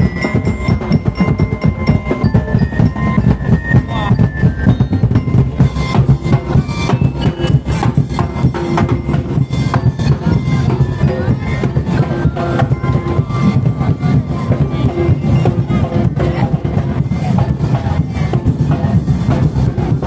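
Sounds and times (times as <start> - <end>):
held melodic tones: 0.0 - 19.9
fast dense drumming: 0.0 - 20.0.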